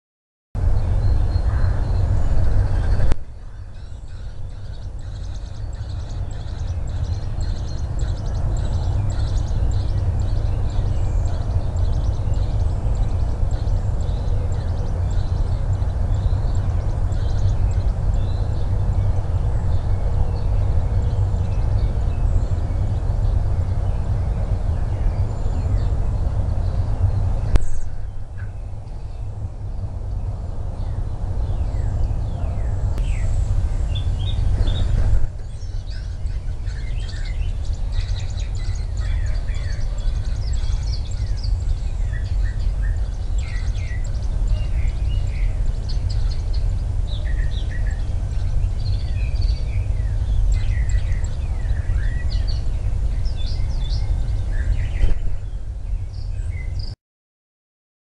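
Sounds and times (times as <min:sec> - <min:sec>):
birds chirping: 0:00.6 - 0:57.0
steady low rumble: 0:00.6 - 0:57.0.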